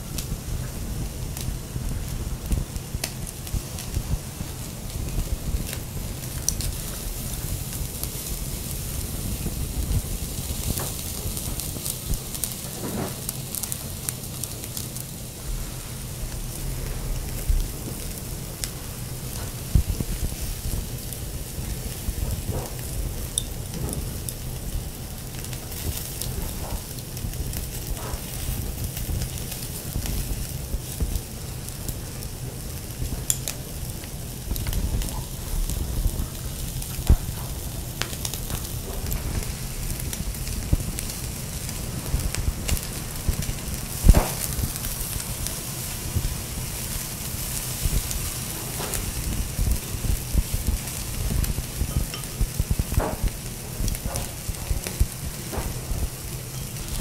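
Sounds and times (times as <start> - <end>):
meat sizzling on charcoal grill: 0.0 - 57.0.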